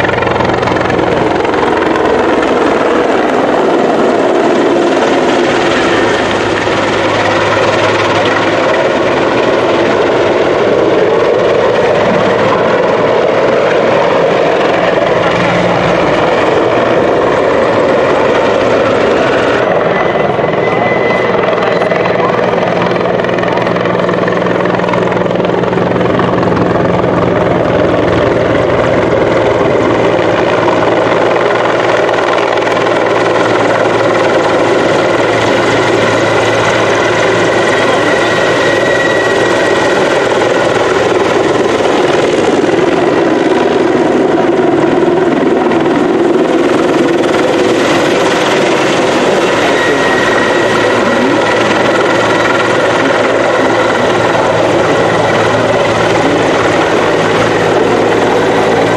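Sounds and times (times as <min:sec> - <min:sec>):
helicopter hovering: 0:00.0 - 0:58.9
high turbine whine: 0:00.0 - 0:58.9.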